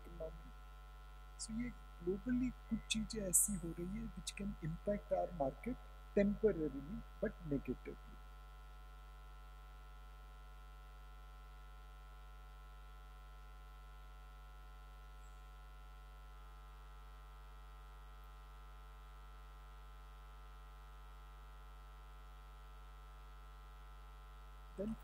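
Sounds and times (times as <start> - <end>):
faint electrical mains hum: 0.0 - 25.0.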